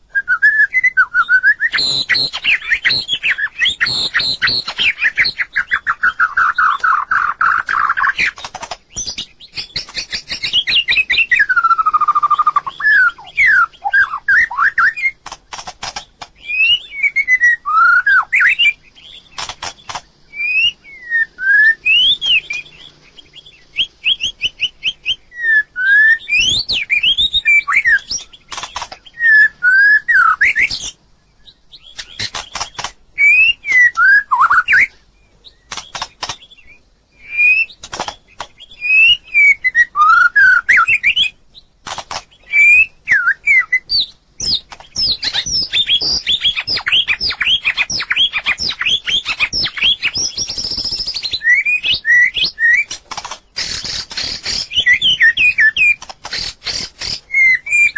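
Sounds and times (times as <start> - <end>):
songbird singing whistled phrases: 0.1 - 57.9.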